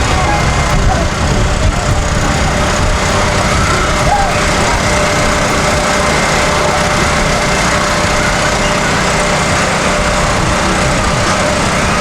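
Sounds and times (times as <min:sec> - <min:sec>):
loud mechanical drone: 0:00.0 - 0:12.0.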